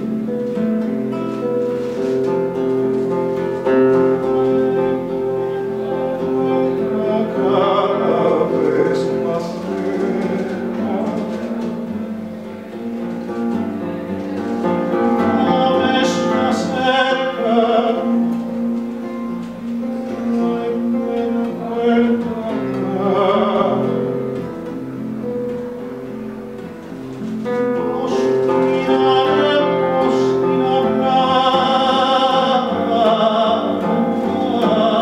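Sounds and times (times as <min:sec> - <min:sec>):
guitar accompaniment: 0:00.0 - 0:35.0
person singing with vibrato: 0:00.0 - 0:35.0.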